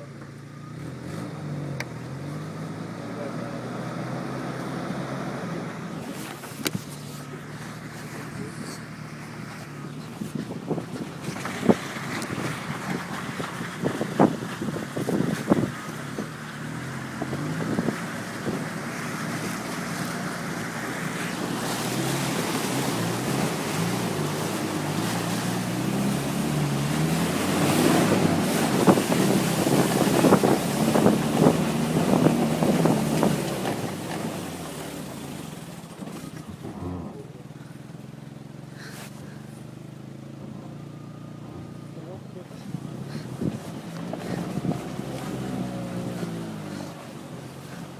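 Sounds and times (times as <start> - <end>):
engine running hard under load: 7.2 - 47.9.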